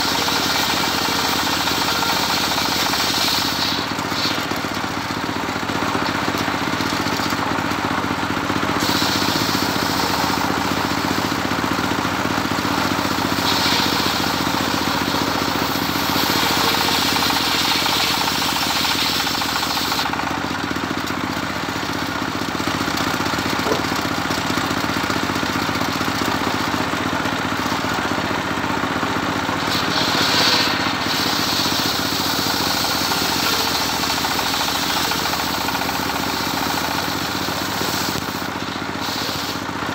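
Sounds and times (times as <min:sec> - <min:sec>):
engine running under load: 0:00.0 - 0:39.9
saw blade cutting wood: 0:00.0 - 0:39.9.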